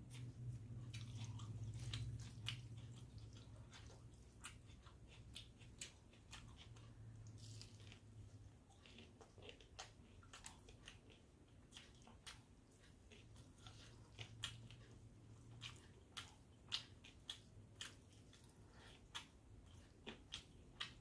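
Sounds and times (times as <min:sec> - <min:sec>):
faint chewing: 0:00.0 - 0:21.0.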